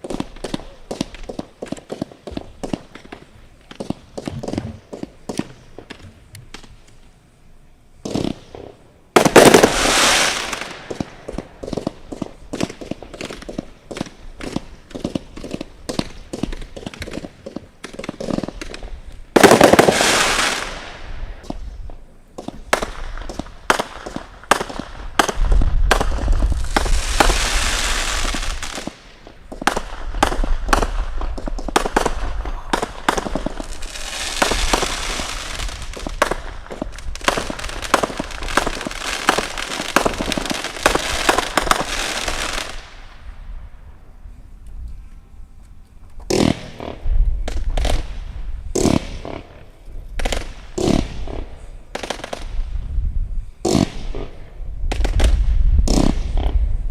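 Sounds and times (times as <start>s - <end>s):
fireworks bangs and pops: 0.0s - 6.8s, 8.0s - 43.2s, 46.2s - 52.7s, 53.6s - 56.9s
dense firework crackling: 0.0s - 7.0s, 8.0s - 44.3s, 46.3s - 56.9s.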